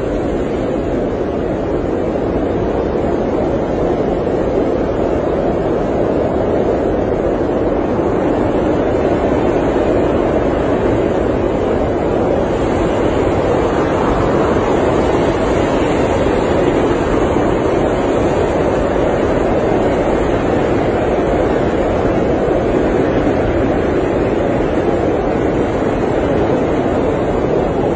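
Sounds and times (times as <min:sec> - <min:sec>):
blizzard wind rushing: 0:00.0 - 0:27.9.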